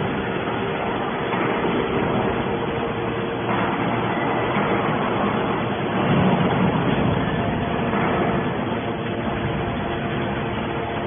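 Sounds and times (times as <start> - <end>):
scrap metal baler humming: 0.0 - 11.0.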